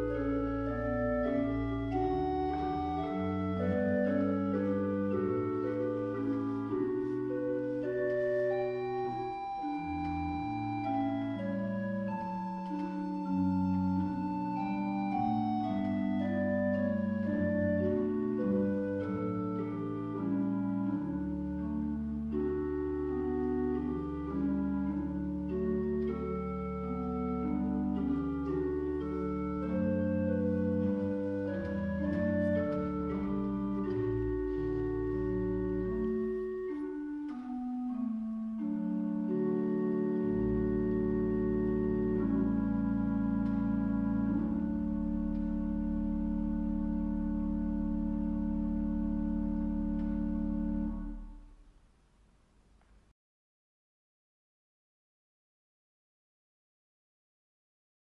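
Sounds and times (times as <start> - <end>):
church pipe organ chords: 0.0 - 51.8.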